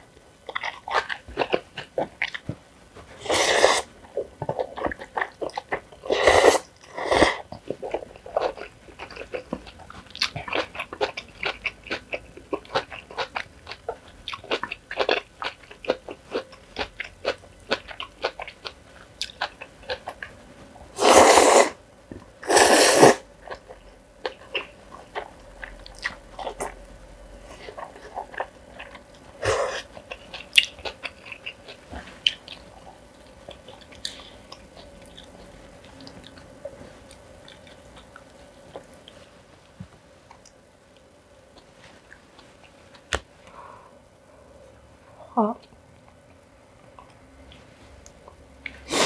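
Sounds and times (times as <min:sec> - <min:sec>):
person chewing and crunching food: 0:00.3 - 0:43.6.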